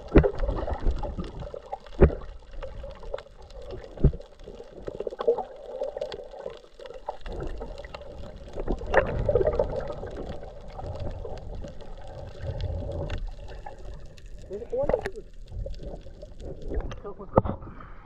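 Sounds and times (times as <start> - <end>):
water churning underwater: 0.0 - 18.0.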